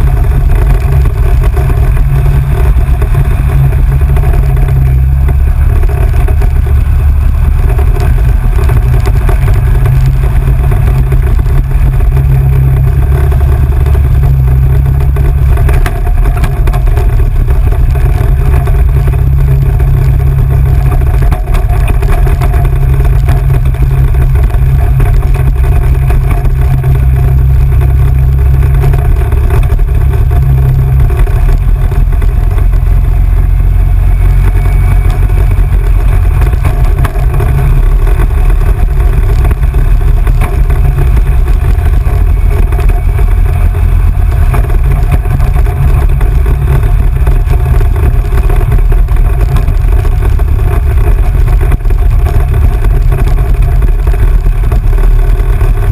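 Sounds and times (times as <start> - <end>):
off-road vehicle engine rumbling: 0.0 - 55.9.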